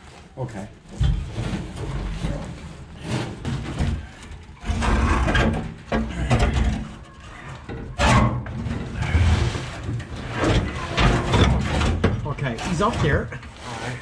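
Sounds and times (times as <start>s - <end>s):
metal tank scraping and knocking: 0.9s - 14.0s.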